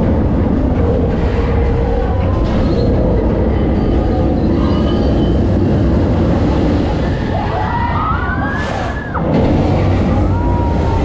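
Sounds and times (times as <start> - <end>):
deep steady rumble: 0.0 - 11.0.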